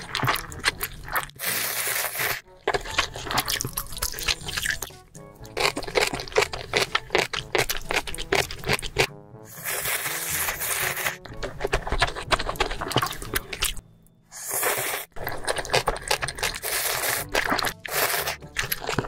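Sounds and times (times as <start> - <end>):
wet chewing and crunching: 0.0 - 13.8, 14.4 - 19.0.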